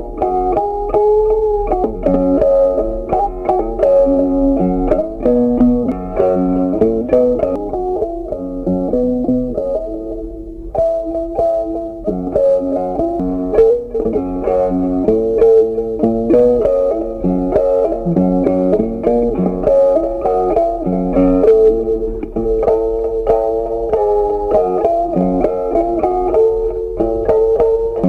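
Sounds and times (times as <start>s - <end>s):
plucked-string tune: 0.0s - 28.0s.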